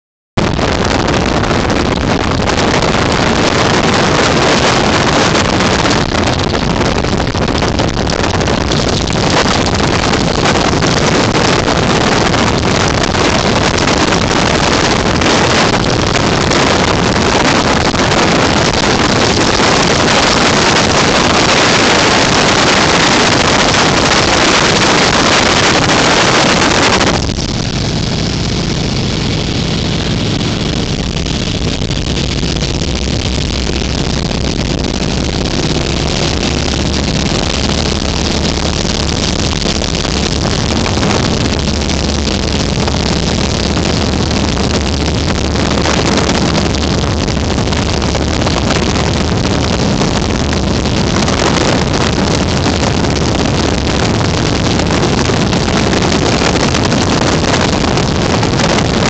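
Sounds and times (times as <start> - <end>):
wind buffeting microphone: 0.4 - 59.0
airplane radial engine and propeller: 0.7 - 59.0.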